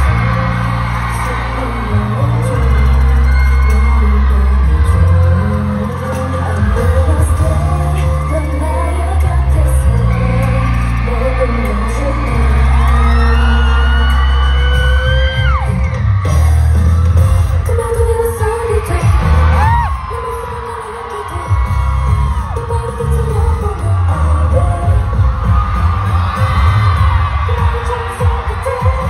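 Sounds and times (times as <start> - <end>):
women singing into microphones: 0.0 - 15.2, 17.6 - 25.6, 26.4 - 29.0
fans yelling and whooping: 0.0 - 29.0
pop song over sound system: 0.0 - 29.0.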